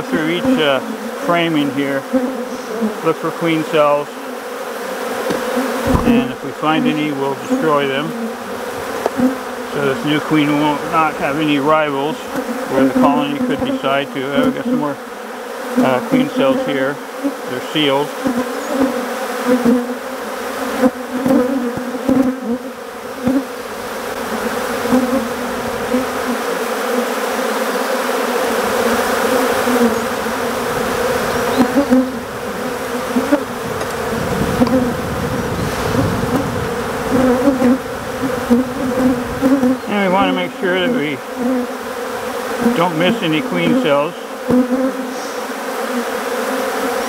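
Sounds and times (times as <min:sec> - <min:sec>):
bees buzzing in a swarm: 0:00.0 - 0:47.0.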